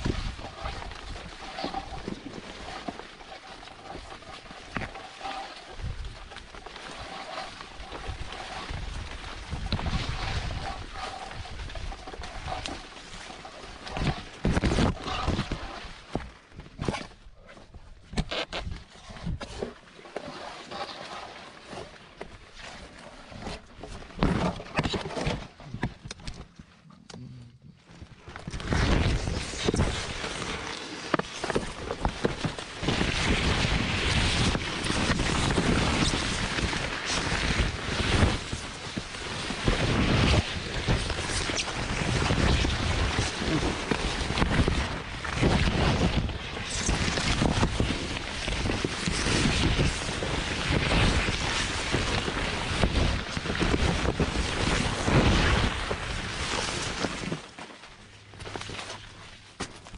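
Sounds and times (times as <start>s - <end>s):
scattered crackles: 0.0s - 59.9s.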